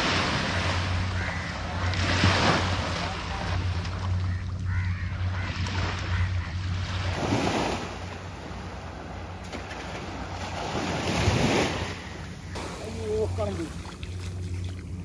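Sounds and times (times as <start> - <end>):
waves washing on sandy beach: 0.0 - 4.4, 5.3 - 14.3.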